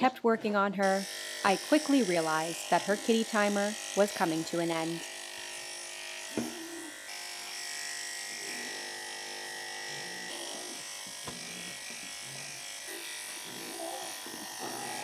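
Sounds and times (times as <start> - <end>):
electric clippers running: 0.8 - 15.0.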